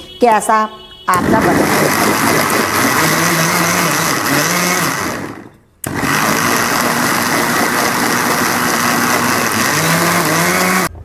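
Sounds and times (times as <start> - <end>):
electric mixer grinder running: 1.2 - 10.9.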